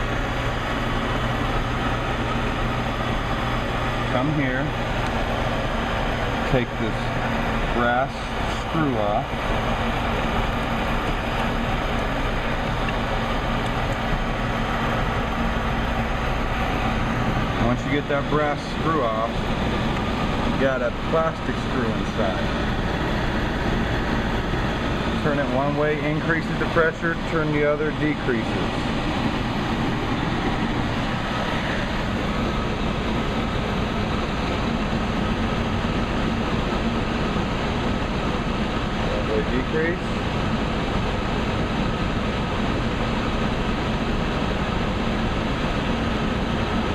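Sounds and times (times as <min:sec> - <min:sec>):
furnace running with low hum: 0:00.0 - 0:46.9.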